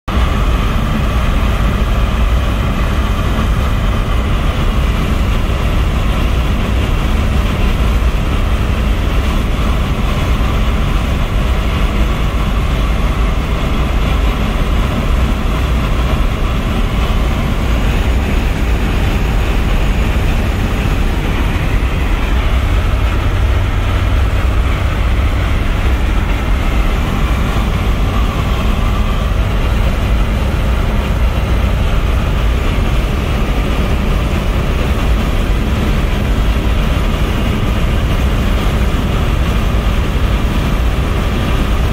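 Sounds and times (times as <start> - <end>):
road and wind noise: 0.0 - 41.9
car engine droning: 0.1 - 41.9.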